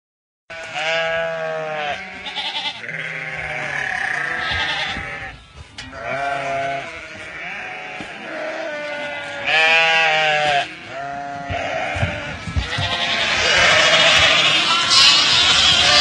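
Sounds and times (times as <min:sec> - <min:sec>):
flock of sheep bleating: 0:00.5 - 0:16.0.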